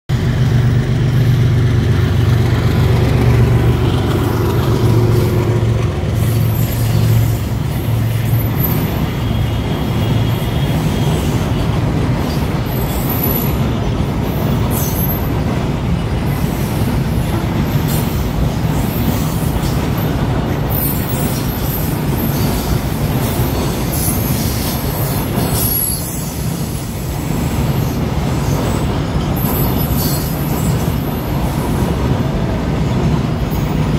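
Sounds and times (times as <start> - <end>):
diesel locomotive engine drone: 0.1 - 33.9
freight wagons clattering on rails: 0.3 - 33.9.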